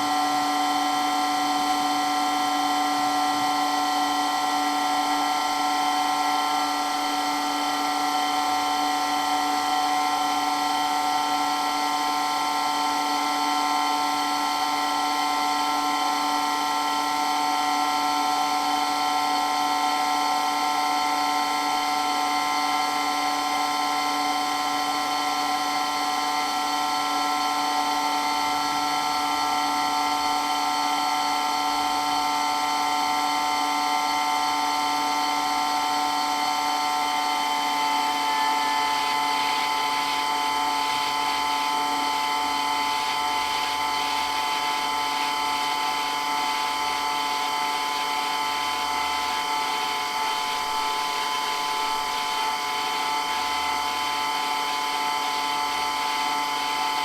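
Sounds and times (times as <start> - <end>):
water pump whining: 0.0 - 57.0.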